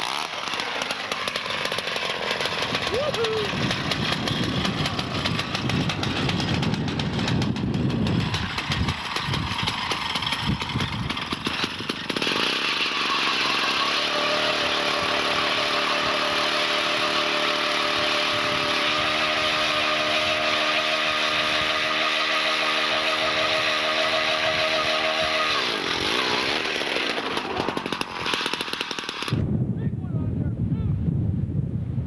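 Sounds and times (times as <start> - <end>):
small engine revving: 0.0 - 29.4.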